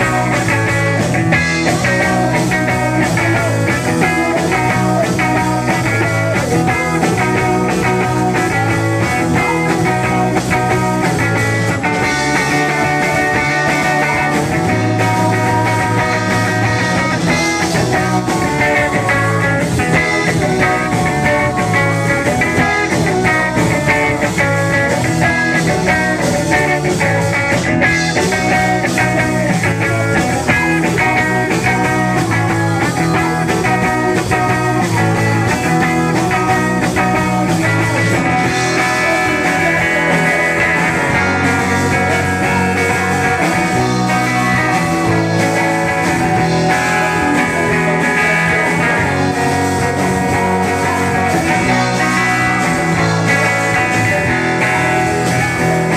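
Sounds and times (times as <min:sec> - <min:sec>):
bass guitar: 0:00.0 - 0:55.9
drums: 0:00.0 - 0:55.9
electric guitar: 0:00.0 - 0:55.9.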